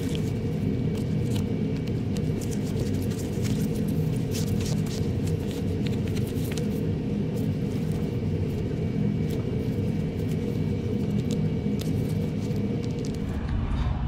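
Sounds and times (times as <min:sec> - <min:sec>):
machinery rumble: 0:00.0 - 0:14.0.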